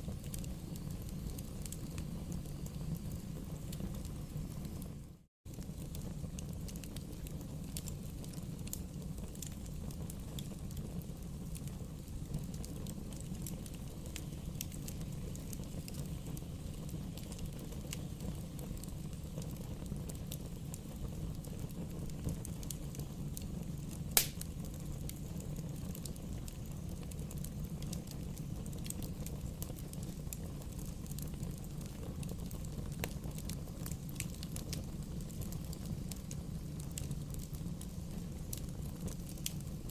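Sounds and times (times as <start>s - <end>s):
bonfire flame rumbling: 0.0s - 39.9s
burning wood crackling and popping: 0.0s - 39.9s.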